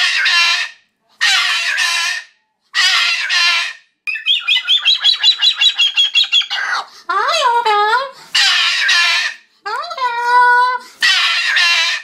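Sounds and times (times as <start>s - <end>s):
cockatoo squawking: 0.0s - 9.4s, 11.0s - 12.0s.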